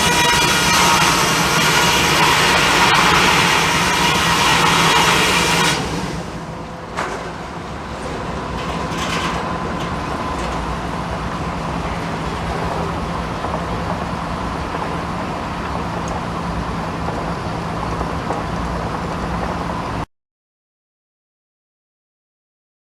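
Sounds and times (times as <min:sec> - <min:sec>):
sawmill machinery hum: 0:00.0 - 0:20.0.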